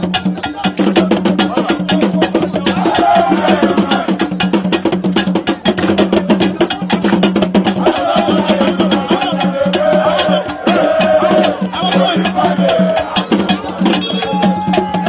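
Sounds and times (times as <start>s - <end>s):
fast percussion clicks: 0.0s - 15.0s.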